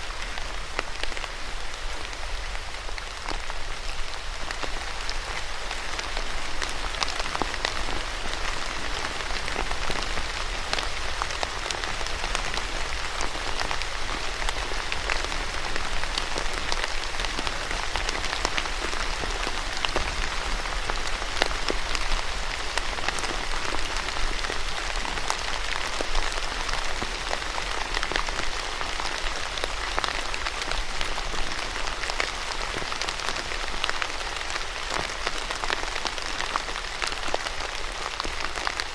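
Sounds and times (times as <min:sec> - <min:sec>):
steady rain with drop ticks: 0:00.0 - 0:38.9.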